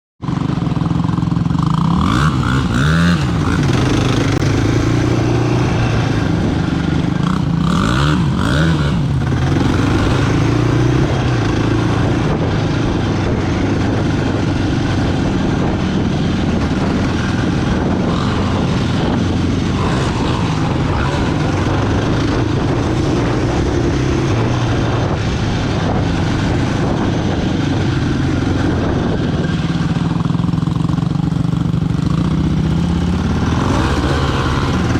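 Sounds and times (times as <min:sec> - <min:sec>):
quad bike engine revving: 0:00.2 - 0:34.9.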